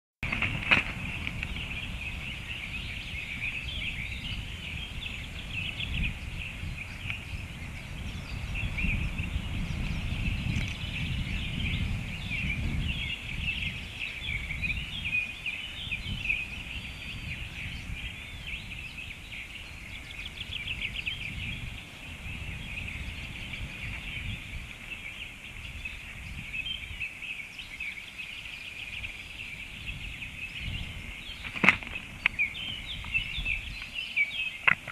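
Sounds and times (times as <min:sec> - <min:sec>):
bird rippling chatter: 0:00.2 - 0:34.9.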